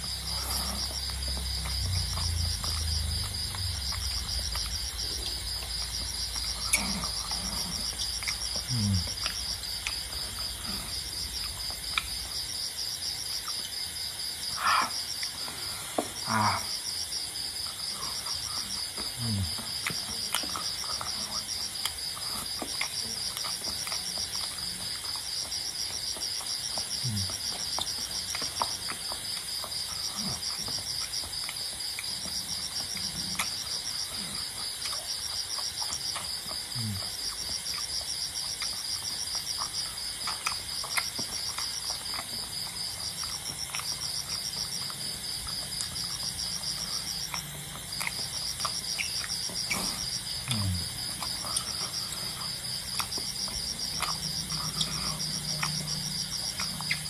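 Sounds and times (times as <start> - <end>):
crickets chirping: 0.0 - 57.0
person eating and chewing: 0.0 - 57.0.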